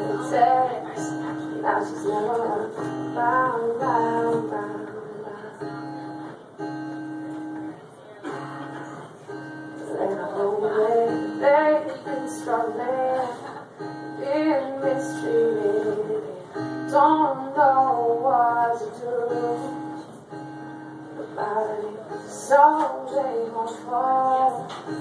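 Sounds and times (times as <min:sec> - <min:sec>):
woman singing: 0:00.0 - 0:06.3, 0:09.7 - 0:20.1, 0:21.0 - 0:25.0
acoustic guitar: 0:00.0 - 0:25.0.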